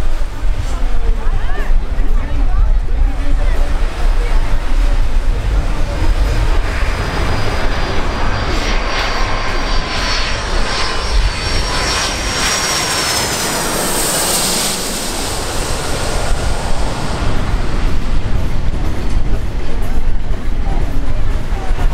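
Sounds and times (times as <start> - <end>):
jet airliner passing overhead: 0.0 - 21.9.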